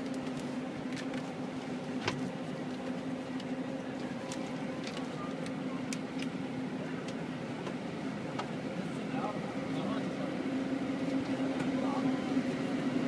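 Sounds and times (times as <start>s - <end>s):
bus engine hum: 0.0s - 13.0s.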